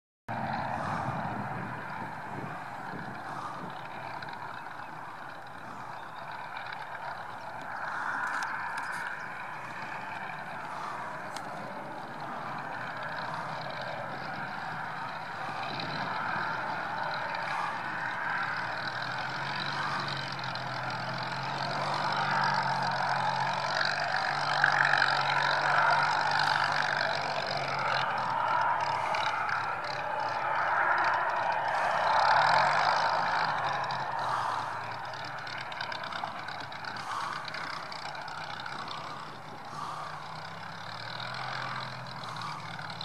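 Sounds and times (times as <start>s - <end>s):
propeller aircraft engine drone: 0.3s - 43.0s.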